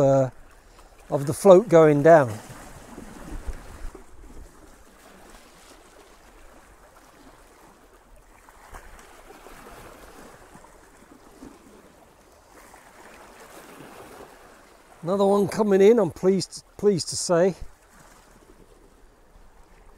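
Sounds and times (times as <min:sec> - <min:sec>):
sea water lapping shore: 0:00.0 - 0:19.9.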